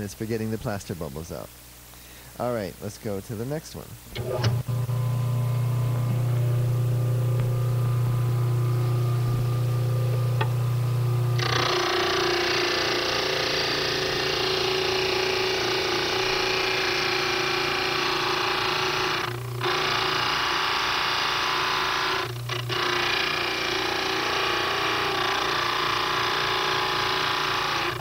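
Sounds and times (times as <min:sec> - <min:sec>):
motor hum: 0:04.1 - 0:28.0
grinder grinding stone: 0:04.2 - 0:28.0.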